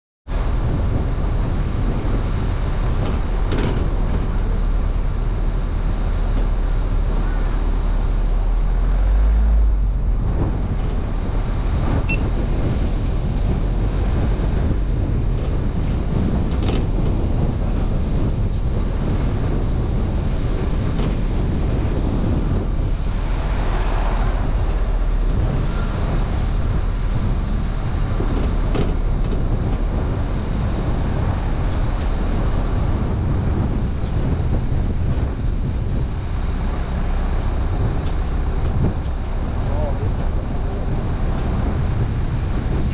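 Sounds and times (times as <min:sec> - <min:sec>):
car engine and tyre rumble: 0:00.3 - 0:42.9.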